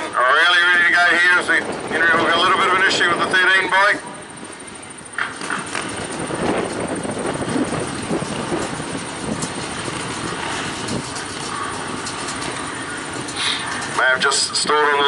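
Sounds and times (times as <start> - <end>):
motorcycle engines droning: 0.0 - 15.0.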